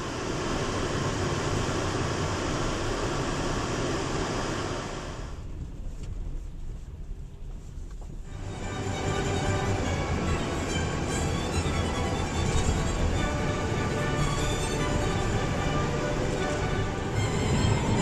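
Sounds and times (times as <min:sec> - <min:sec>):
vehicle road and engine noise: 0:00.0 - 0:18.0.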